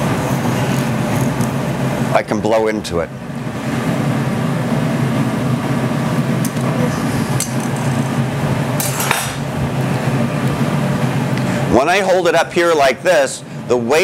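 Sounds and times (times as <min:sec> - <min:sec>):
furnace low noise: 0:00.0 - 0:14.0.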